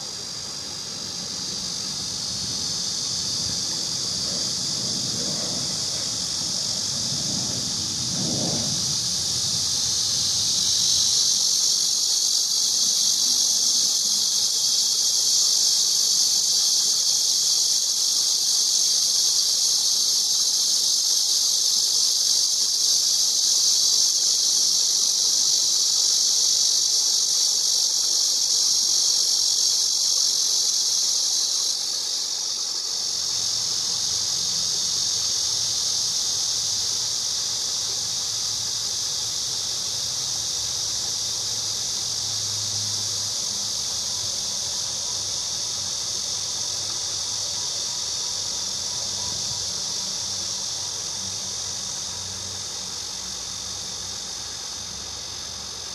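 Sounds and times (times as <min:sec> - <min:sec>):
cicada buzzing: 0:00.0 - 0:55.9.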